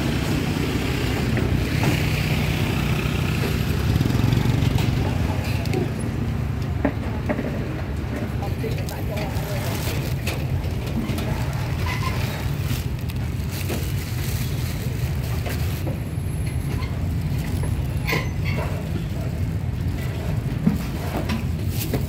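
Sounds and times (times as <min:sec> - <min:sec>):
low market rumble: 0:00.0 - 0:22.0
scattered clicks and knocks: 0:03.2 - 0:14.4, 0:15.1 - 0:22.0.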